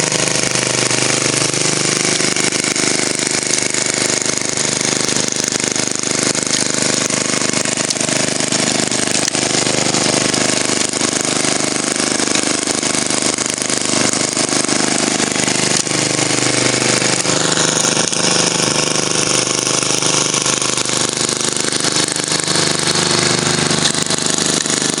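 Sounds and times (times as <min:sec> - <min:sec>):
snowblower engine running: 0:00.0 - 0:25.0
snowblower throwing snow: 0:00.0 - 0:25.0.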